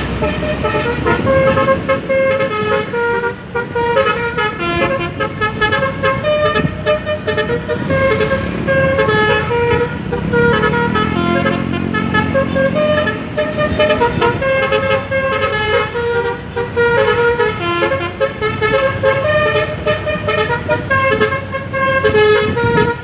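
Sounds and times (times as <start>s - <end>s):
bus engine rumble: 0.0s - 23.0s
multi-tone air horn melody: 0.1s - 23.0s.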